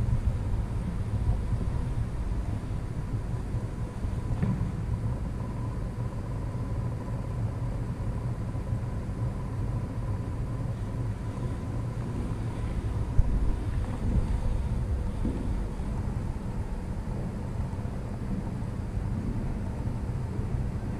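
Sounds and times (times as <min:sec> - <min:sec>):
faint even hum: 0:00.0 - 0:20.9.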